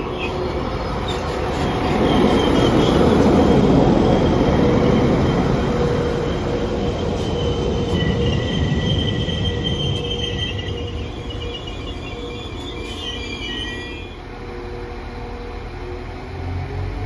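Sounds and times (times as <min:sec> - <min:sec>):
train brakes squealing: 0:00.0 - 0:14.3
train rumbling past: 0:00.0 - 0:17.0.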